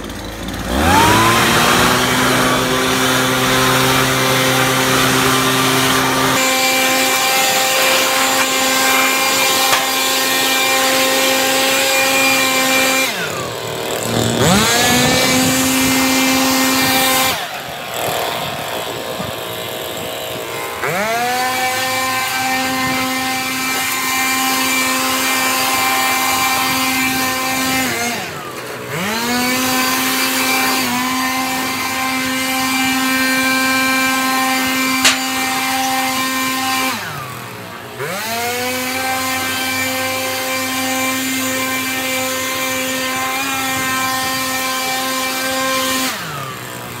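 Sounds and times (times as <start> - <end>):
leaf blower whining: 0.0 - 47.0.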